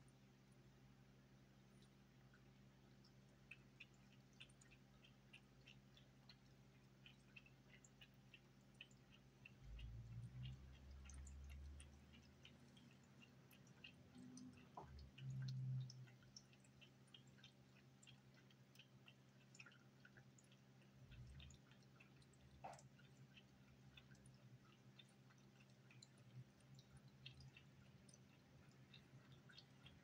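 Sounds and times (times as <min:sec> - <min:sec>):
cat lapping water: 0:01.3 - 0:30.0
drinking fountain hum: 0:01.4 - 0:30.0.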